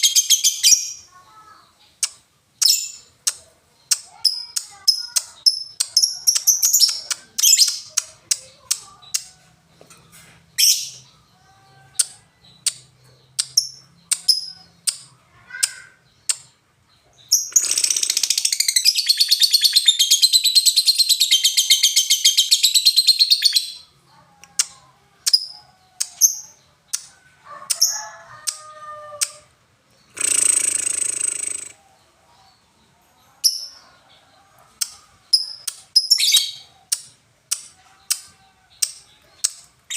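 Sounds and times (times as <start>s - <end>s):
lovebird chirping: 0.0s - 9.4s, 10.1s - 29.4s, 30.0s - 39.9s.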